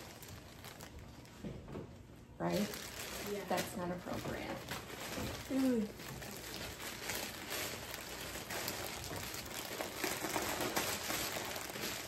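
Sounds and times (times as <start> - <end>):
plastic bags crinkling: 0.0 - 1.6, 2.4 - 12.0.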